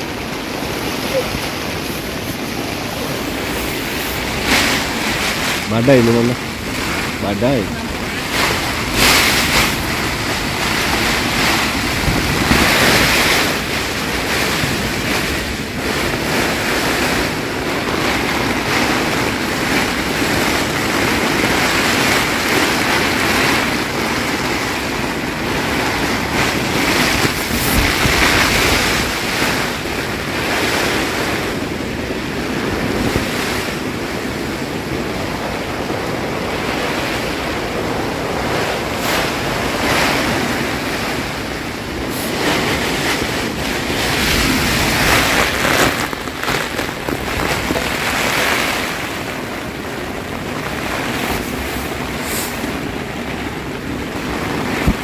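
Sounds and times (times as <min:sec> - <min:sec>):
tent fabric flapping: 0:00.0 - 0:55.0
wind gusting: 0:00.0 - 0:55.0.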